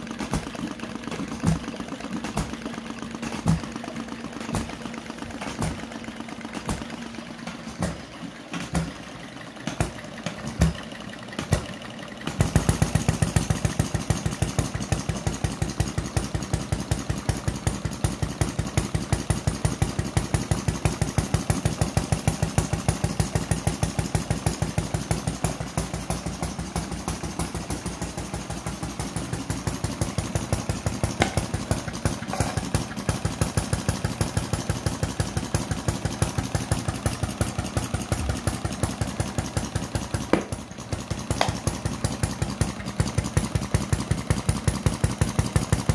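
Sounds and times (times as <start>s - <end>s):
model engine pops: 0.0s - 36.8s, 37.5s - 45.8s
model engine running: 0.0s - 45.9s.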